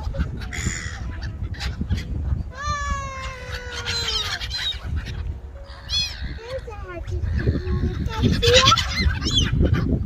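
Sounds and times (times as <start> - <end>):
pond birds calling: 0.0 - 10.0.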